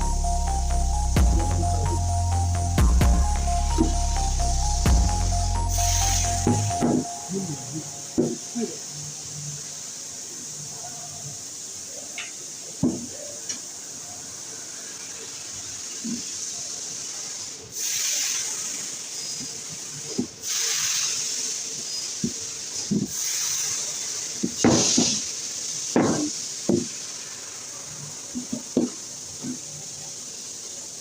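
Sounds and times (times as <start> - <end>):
welding hiss: 0.0 - 31.0.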